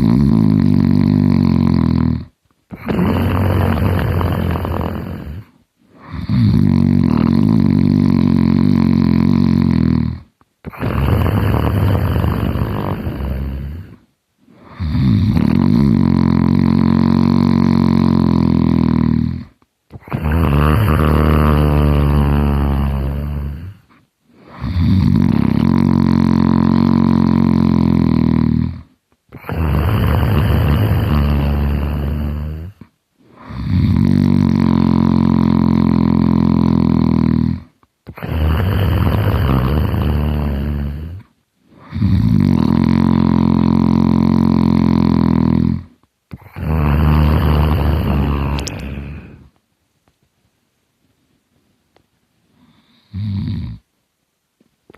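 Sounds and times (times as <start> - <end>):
man snoring heavily: 0.0 - 49.5, 52.7 - 53.9.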